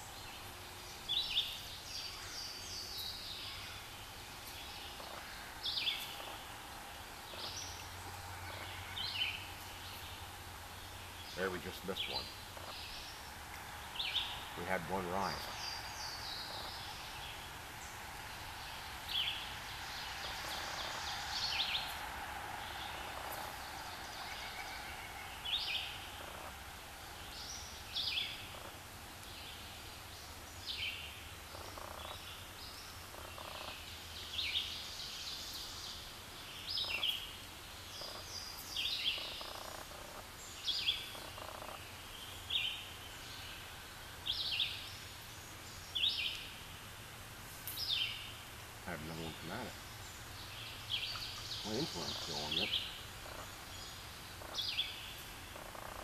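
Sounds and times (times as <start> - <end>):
birds chirping: 0.0 - 56.0
faint background hiss: 0.0 - 56.0.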